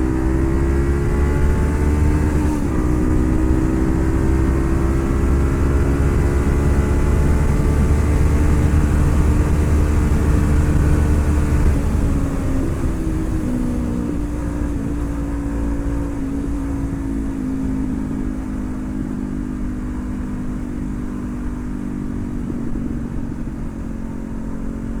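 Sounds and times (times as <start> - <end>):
motorcycle engine cruising: 0.0 - 25.0.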